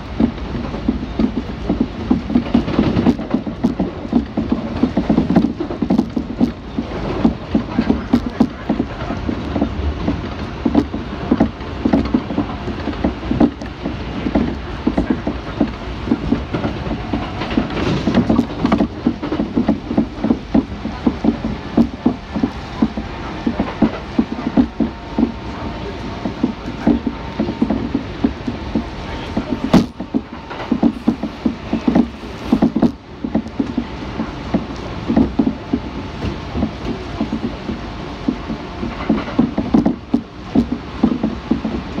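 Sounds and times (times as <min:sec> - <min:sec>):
electric train rumbling: 0:00.0 - 0:42.0
train clicks and rattles: 0:00.0 - 0:42.0.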